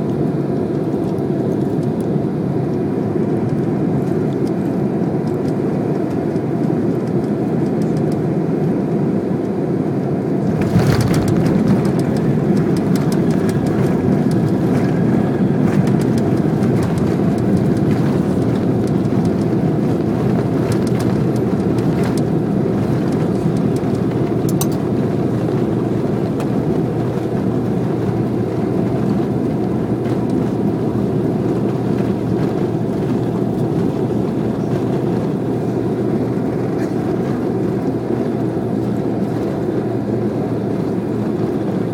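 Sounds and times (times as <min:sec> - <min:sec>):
rumbling with rattles and clicks: 0:00.0 - 0:08.3, 0:10.4 - 0:41.9
jet cabin noise: 0:00.0 - 0:41.9.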